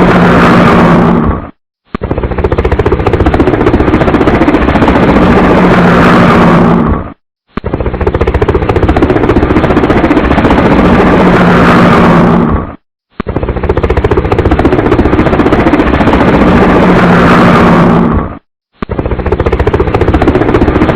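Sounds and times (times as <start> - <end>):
helicopter engine tone: 0.0 - 1.3, 2.0 - 12.7, 13.3 - 20.9
helicopter rotor beating: 0.0 - 20.9.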